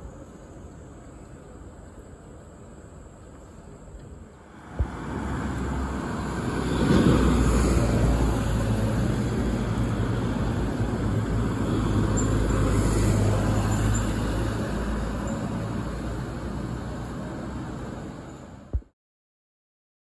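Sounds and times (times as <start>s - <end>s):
vehicle engine rumbling: 0.0s - 18.9s.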